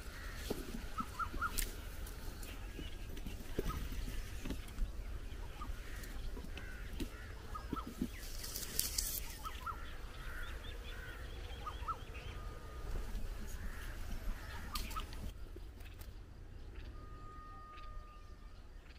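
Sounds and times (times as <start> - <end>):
birds chirping and whistling: 0.0 - 15.3, 16.6 - 18.9.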